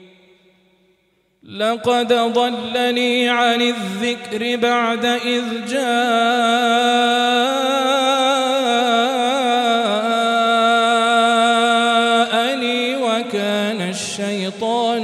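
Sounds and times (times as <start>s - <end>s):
man chanting melodically: 1.4s - 15.0s.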